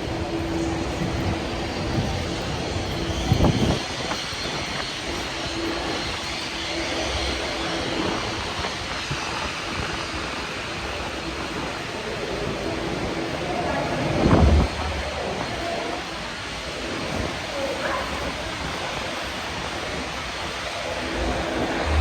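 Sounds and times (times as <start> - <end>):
airliner noise with hum: 0.0 - 22.0.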